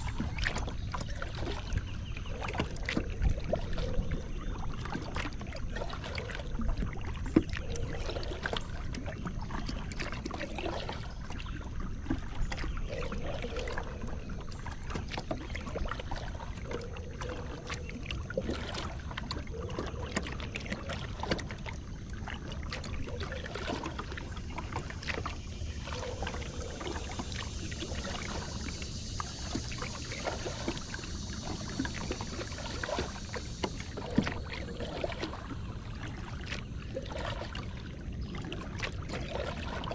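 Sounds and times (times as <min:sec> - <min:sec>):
kayak paddle strokes splashing: 0:00.0 - 0:39.9
water dripping off paddle: 0:00.0 - 0:39.9.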